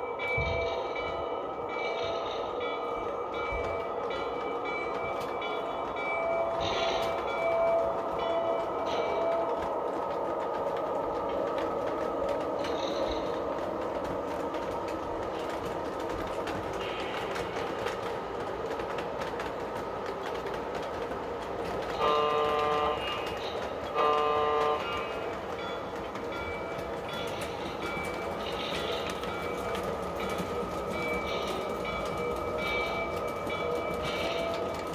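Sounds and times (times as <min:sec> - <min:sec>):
model train wheels rolling on track: 0:00.0 - 0:34.9.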